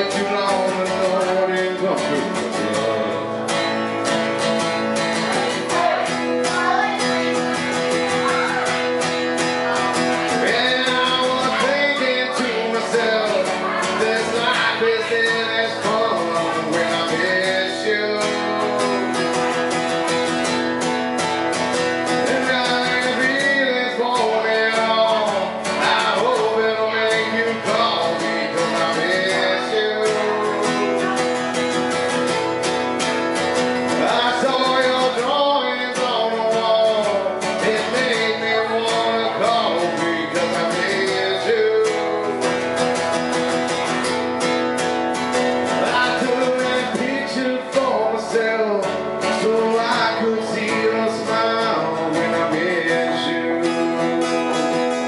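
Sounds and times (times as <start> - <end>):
acoustic guitar: 0.0 - 55.0
man singing: 0.0 - 55.0.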